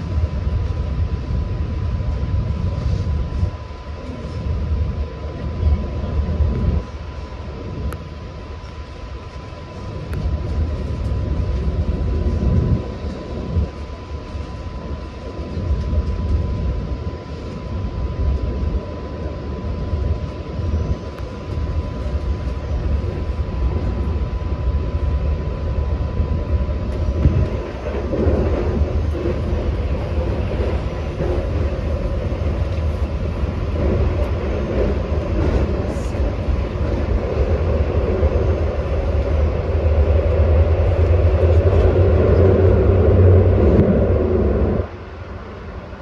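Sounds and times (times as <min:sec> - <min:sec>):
thin steady whine: 0:00.0 - 0:46.0
train wheels rumbling on rail: 0:00.0 - 0:46.0.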